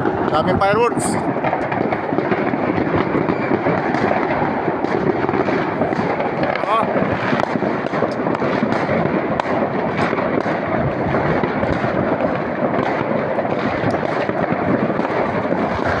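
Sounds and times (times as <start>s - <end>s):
fireworks and firecrackers crackling: 0.0s - 16.0s.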